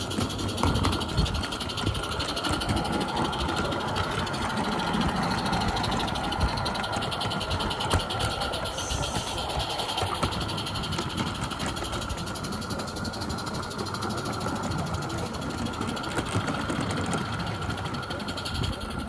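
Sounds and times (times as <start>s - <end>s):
small wheels rumbling on track: 0.0s - 19.0s
steam hissing: 0.0s - 19.0s.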